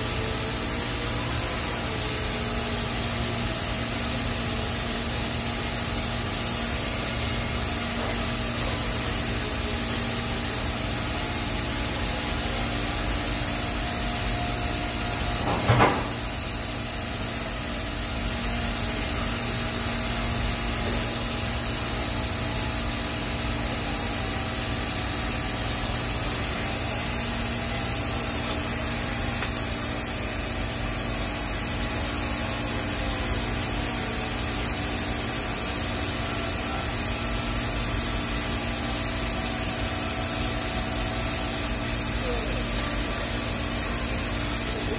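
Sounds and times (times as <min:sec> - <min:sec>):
welding arc hissing: 0:00.0 - 0:44.9.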